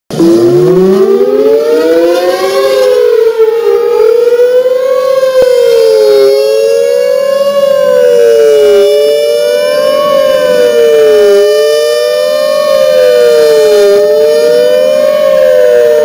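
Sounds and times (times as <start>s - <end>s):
tornado warning sirens wailing: 0.1s - 16.0s.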